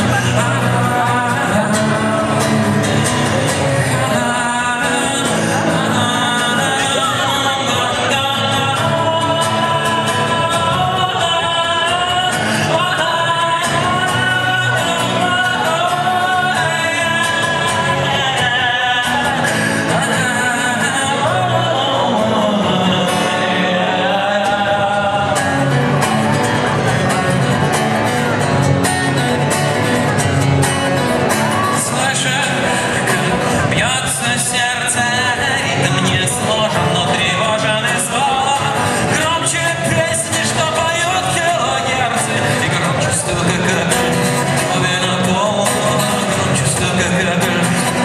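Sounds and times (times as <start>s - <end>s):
instrumental backing: 0.0s - 48.0s
person singing: 0.0s - 48.0s.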